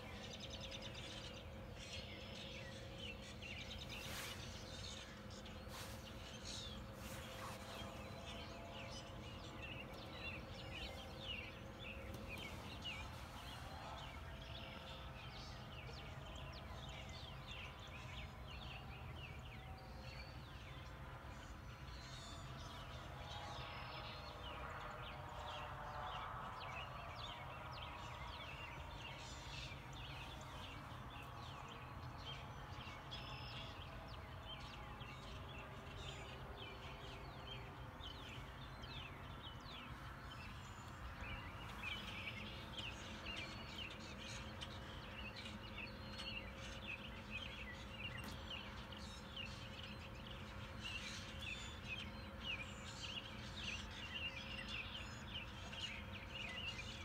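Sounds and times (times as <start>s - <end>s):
birds singing and chirping: 0.0s - 57.0s.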